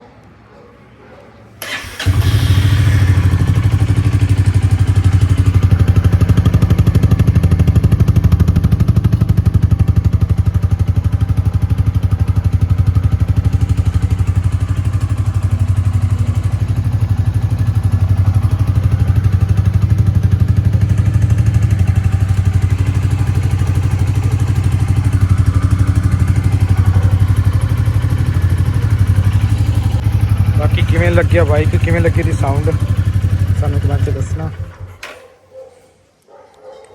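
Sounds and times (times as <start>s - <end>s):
motorcycle engine idling: 1.6s - 35.1s.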